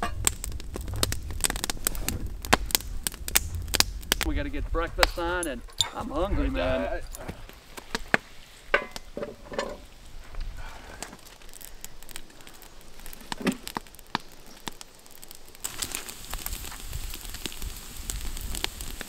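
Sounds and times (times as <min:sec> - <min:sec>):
crackling and crinkling: 0:00.0 - 0:19.0.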